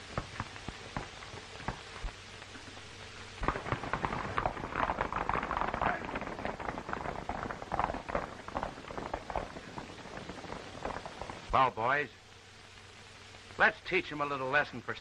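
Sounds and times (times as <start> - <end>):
horses galloping: 0.0 - 15.0.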